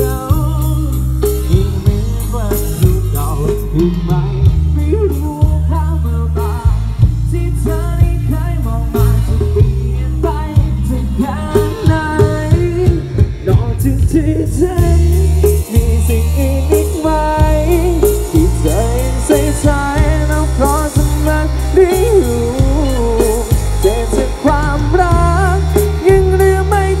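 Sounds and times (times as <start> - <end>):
song over loud speakers: 0.0 - 27.0.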